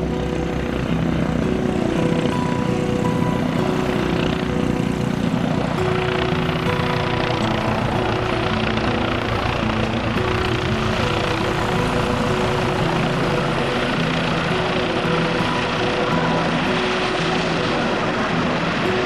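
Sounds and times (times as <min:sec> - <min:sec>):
held notes like a tune: 0:00.0 - 0:19.0
helicopter rotor and turbine: 0:00.0 - 0:19.0.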